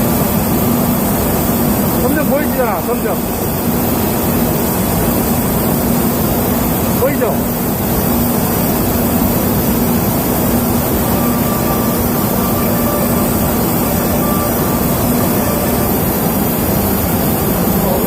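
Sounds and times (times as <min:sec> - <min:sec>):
constant low hum: 0:00.0 - 0:18.0
industrial roar: 0:00.0 - 0:18.0.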